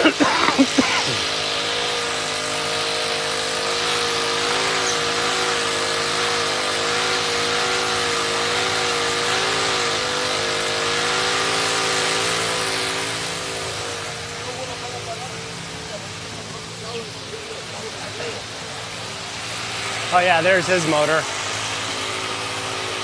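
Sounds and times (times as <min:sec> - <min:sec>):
small motorcycle engine running: 0:00.0 - 0:23.0.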